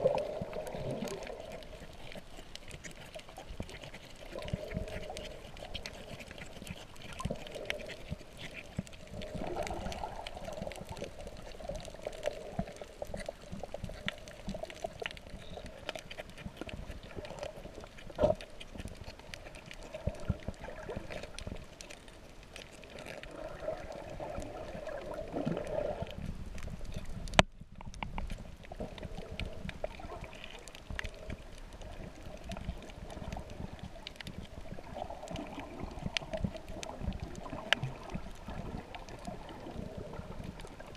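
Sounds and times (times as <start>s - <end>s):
small clicks and crackles: 0.0s - 40.9s
water sloshing underwater: 0.0s - 40.9s.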